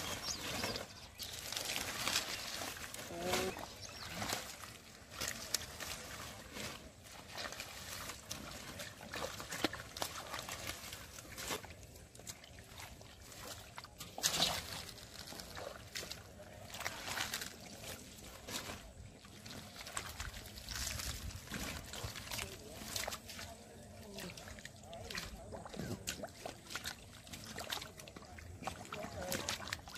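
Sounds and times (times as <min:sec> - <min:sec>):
hands splashing in muddy water: 0:00.0 - 0:29.9.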